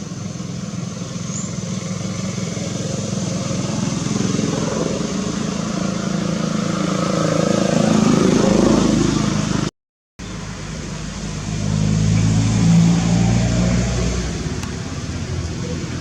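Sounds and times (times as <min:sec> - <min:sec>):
engine running with pulsing hum: 0:00.0 - 0:16.0.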